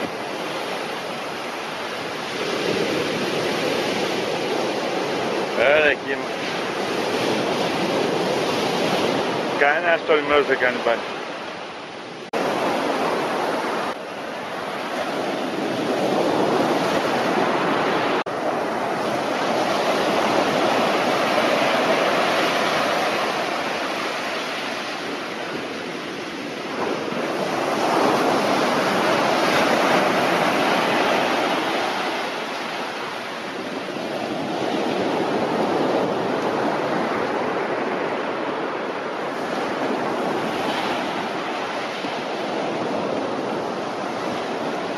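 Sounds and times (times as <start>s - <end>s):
waves breaking on a beach: 0.0s - 44.9s.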